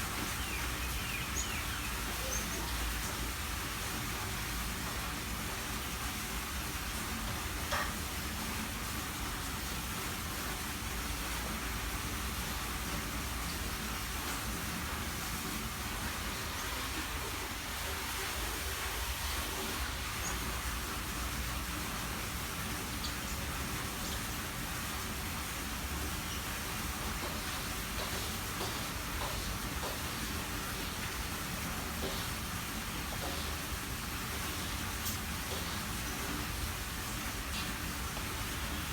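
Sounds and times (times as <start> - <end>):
steady hissing noise: 0.0 - 38.9.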